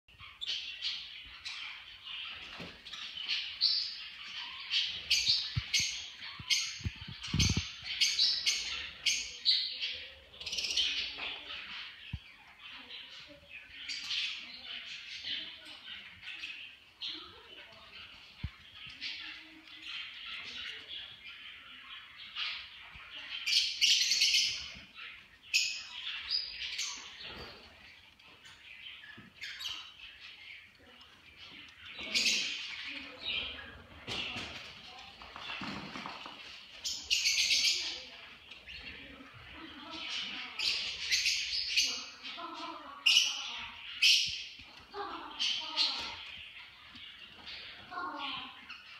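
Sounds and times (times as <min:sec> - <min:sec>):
caged birds chirping: 0:00.0 - 0:48.9.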